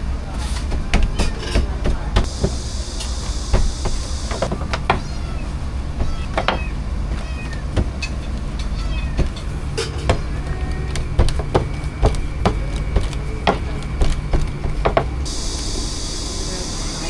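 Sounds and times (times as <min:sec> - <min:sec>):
low steady hum: 0:00.0 - 0:17.0
utensils and cookware clattering: 0:00.3 - 0:15.3.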